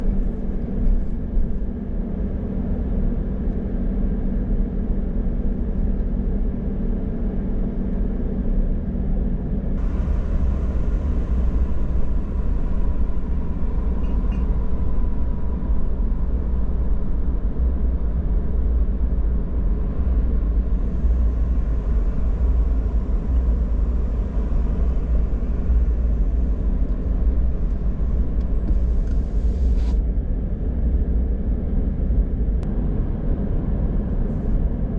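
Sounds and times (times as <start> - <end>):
car road rumble and tyre noise: 0.0 - 34.9.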